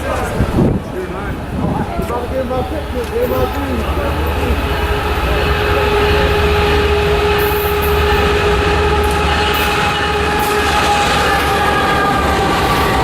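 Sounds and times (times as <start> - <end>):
steady train whine: 0.0 - 13.0
train rumbling past: 0.0 - 13.0.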